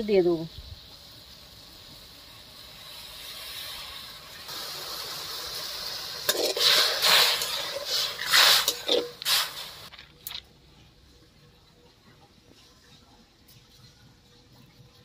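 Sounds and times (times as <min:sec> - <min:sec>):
water heating hiss: 0:00.0 - 0:15.0.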